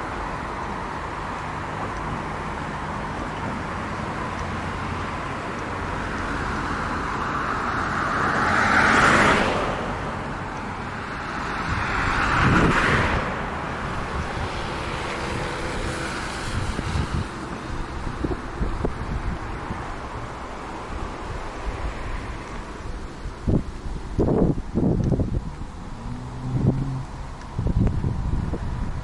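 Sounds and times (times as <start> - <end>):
cars passing close by: 0.0 - 29.0
road traffic: 0.0 - 29.0.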